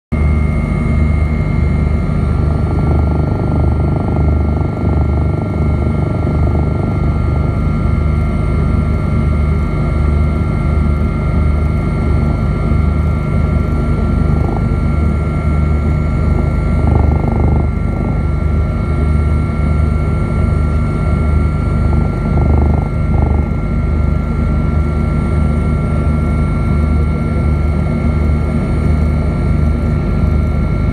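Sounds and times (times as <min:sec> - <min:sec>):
high turbine whine: 0:00.1 - 0:30.9
helicopter rotor beat: 0:00.2 - 0:30.9.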